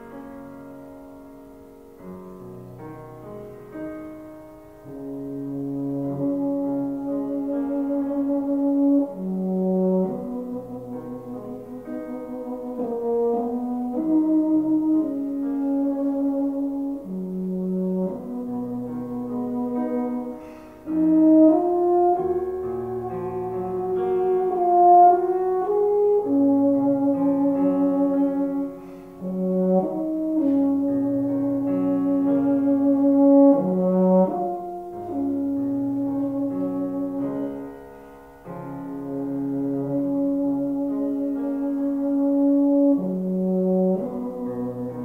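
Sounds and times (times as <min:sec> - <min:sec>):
euphonium playing slow melody: 0:00.0 - 0:45.0
piano accompaniment: 0:00.0 - 0:45.0.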